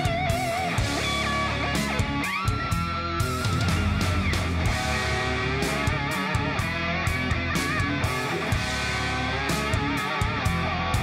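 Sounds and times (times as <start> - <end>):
drums: 0.0 - 11.0
electric guitar lead: 0.0 - 11.0.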